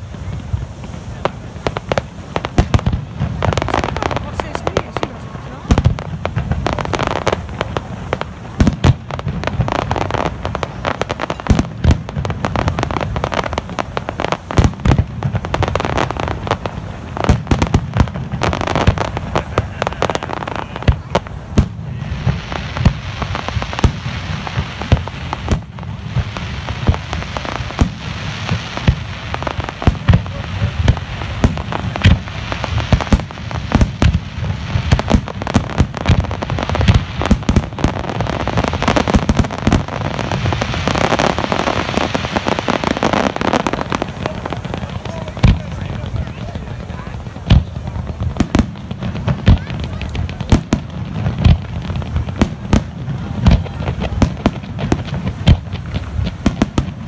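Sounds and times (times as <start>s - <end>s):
fireworks bursting with sharp bangs: 0.0s - 57.0s
low rumble of distant detonations: 0.0s - 57.0s.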